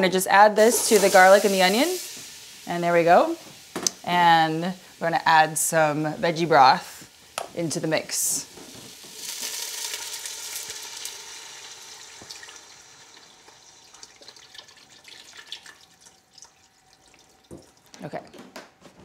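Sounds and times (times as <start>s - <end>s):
broth pouring and sizzling in pot: 0.2s - 17.9s.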